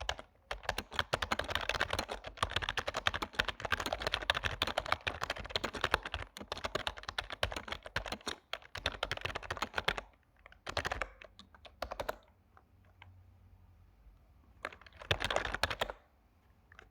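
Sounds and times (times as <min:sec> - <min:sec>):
keyboard typing: 0:00.0 - 0:12.4, 0:14.6 - 0:16.1.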